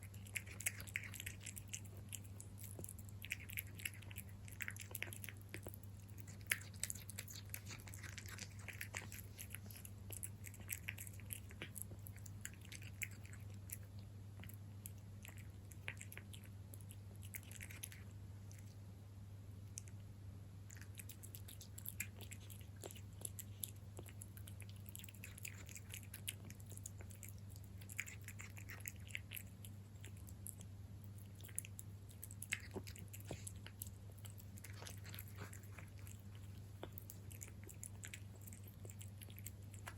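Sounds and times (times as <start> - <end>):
cat chewing food: 0.0 - 18.9, 19.6 - 39.9
steady low hum: 0.0 - 39.9.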